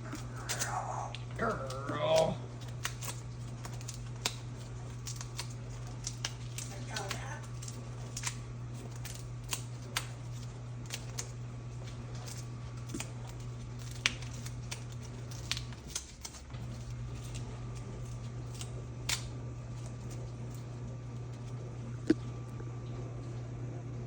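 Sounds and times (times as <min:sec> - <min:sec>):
cockatoo beak clicking and cracking: 0:00.0 - 0:22.7
steady low hum: 0:00.0 - 0:24.0.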